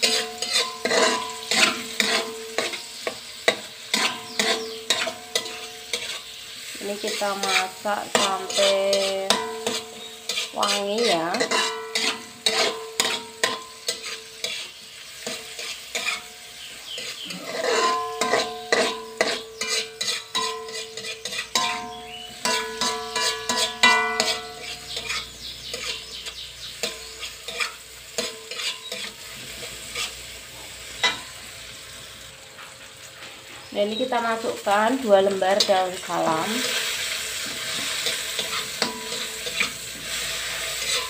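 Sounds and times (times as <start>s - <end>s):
wok ringing: 0.0s - 32.3s, 33.7s - 41.0s
food sizzling in oil: 0.0s - 41.0s
metal spatula scraping a wok: 0.0s - 41.0s.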